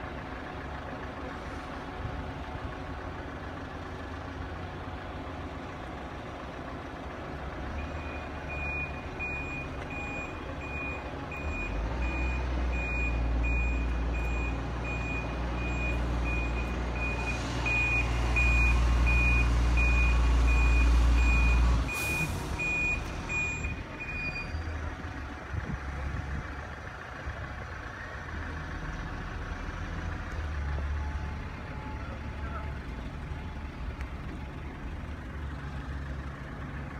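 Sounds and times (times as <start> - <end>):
diesel engine rumbling: 0.0 - 36.9.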